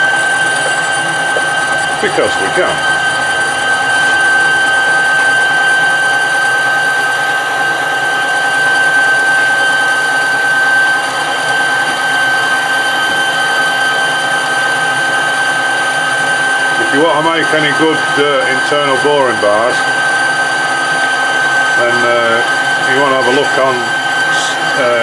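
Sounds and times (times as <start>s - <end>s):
metal lathe whining: 0.0s - 25.0s.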